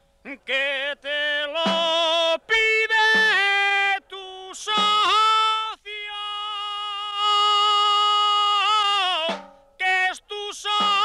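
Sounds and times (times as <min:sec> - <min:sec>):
men singing folk song: 0:00.3 - 0:11.0.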